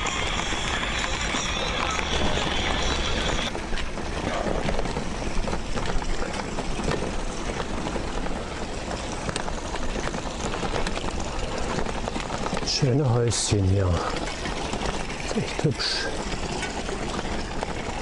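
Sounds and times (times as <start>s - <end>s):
bicycle road noise: 0.0s - 18.0s
small clicks and rattles: 0.0s - 18.0s.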